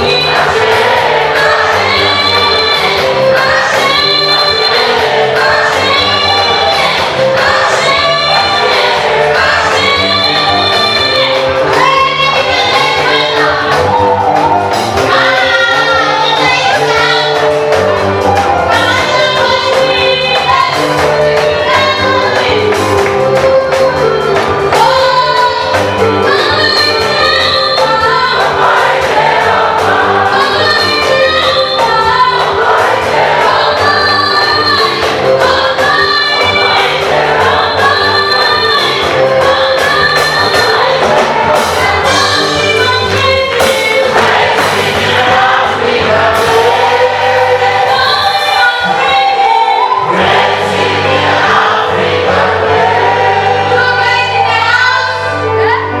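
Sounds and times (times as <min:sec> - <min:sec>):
band accompaniment: 0:00.0 - 0:56.0
choir singing gospel: 0:00.0 - 0:56.0
woman lead singing: 0:00.0 - 0:56.0.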